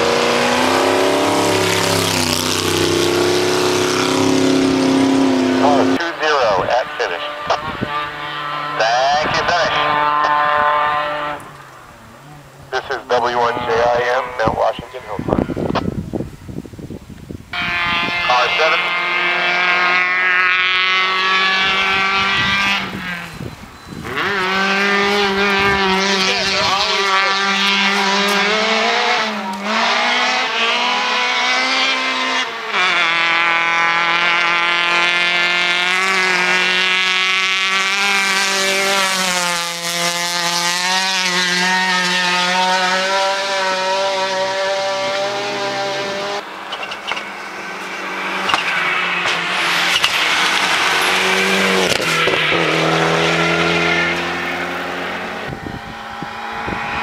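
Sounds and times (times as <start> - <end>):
race car engine accelerating: 0.0 - 16.0, 17.5 - 57.0.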